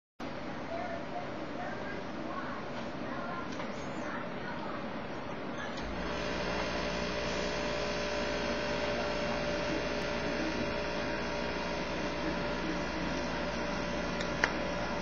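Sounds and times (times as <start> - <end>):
low mains hum: 0.2 - 15.0.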